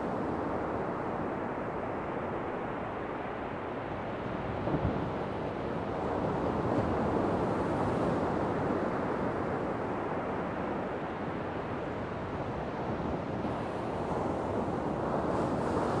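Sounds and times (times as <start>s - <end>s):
ocean waves washing on shore: 0.1s - 16.0s.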